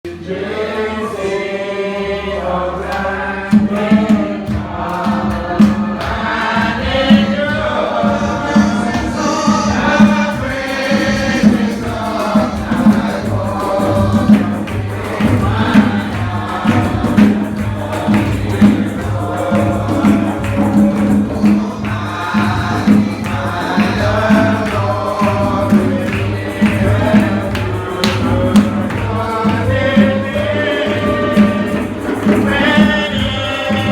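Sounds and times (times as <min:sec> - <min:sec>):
gospel group singing: 0:00.1 - 0:33.9
steady beat: 0:03.0 - 0:33.9.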